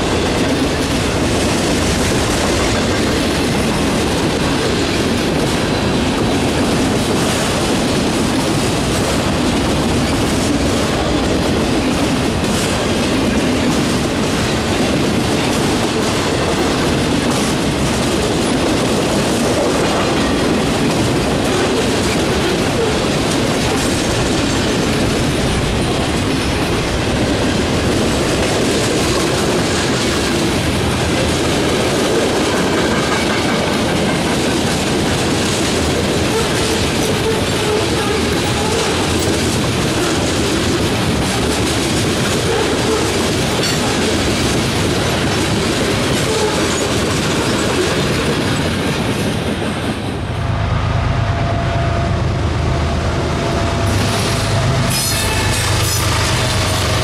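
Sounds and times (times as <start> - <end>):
steel train wheels on rail: 0.0 - 57.0.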